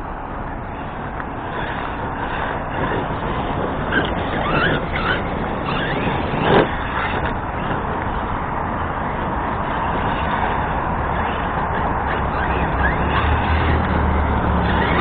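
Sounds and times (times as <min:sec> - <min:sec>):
outdoor background noise: 0:00.0 - 0:15.0
rc truck motor whining: 0:00.2 - 0:15.0.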